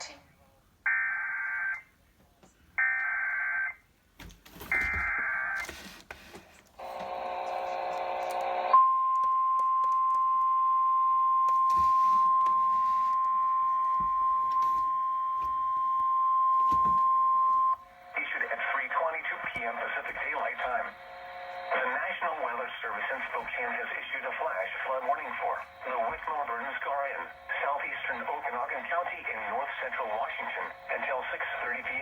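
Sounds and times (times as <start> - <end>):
steady warning alarm tone: 4.6 - 6.0, 6.8 - 32.0.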